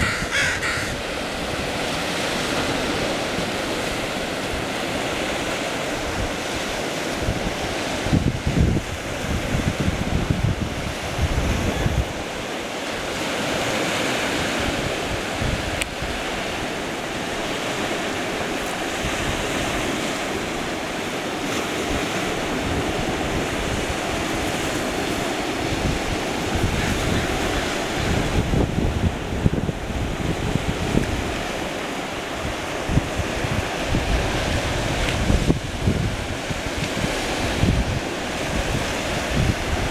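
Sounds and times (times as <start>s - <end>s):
waves washing on beach: 0.0s - 39.9s
wind buffeting microphone: 0.0s - 39.9s.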